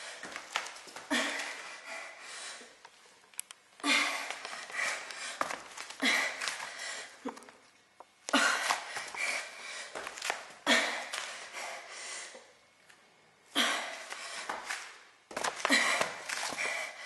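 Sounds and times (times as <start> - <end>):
woman breathing hard: 0.0 - 2.8, 3.8 - 7.4, 8.3 - 12.6, 13.5 - 15.0, 15.6 - 17.0.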